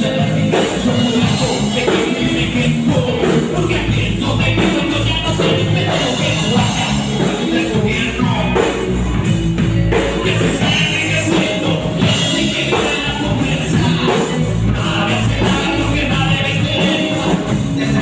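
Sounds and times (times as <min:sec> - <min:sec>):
drum kit beat: 0:00.0 - 0:18.0
guitar: 0:00.0 - 0:18.0
live rock band playing: 0:00.0 - 0:18.0.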